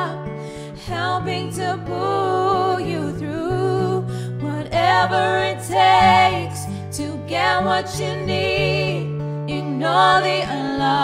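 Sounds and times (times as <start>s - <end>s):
female vocal trio singing: 0.8s - 11.0s.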